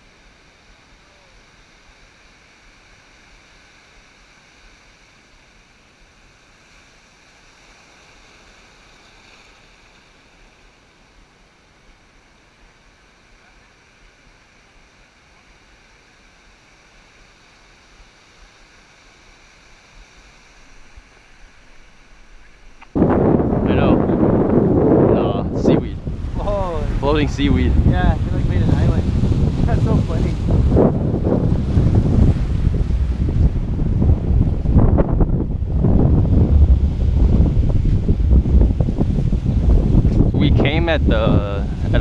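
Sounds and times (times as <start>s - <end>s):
ocean surf breaking: 0.0s - 42.0s.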